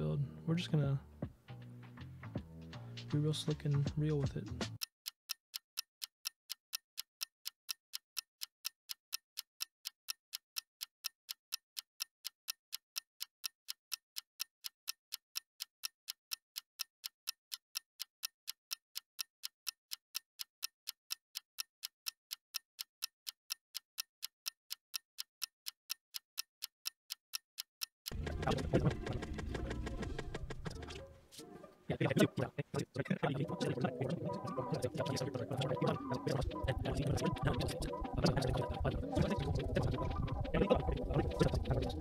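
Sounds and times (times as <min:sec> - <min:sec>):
clock-like ticking: 0:01.2 - 0:31.1, 0:32.0 - 0:42.0.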